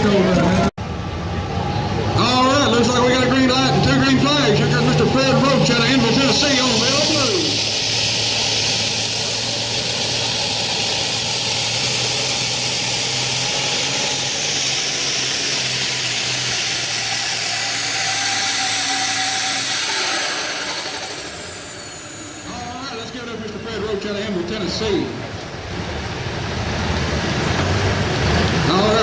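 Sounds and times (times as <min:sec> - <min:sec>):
engine at full throttle: 0:00.0 - 0:24.1, 0:24.8 - 0:29.0.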